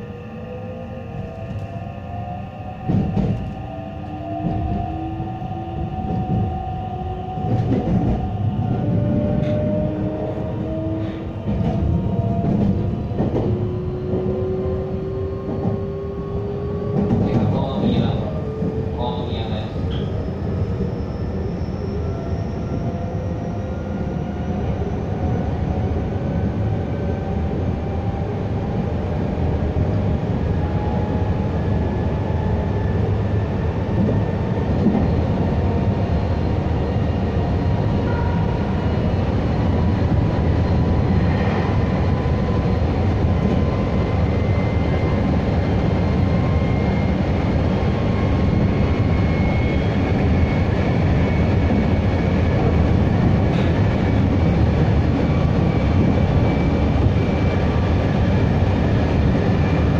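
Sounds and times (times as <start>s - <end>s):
train wheels rumbling on rails: 0.1s - 59.9s.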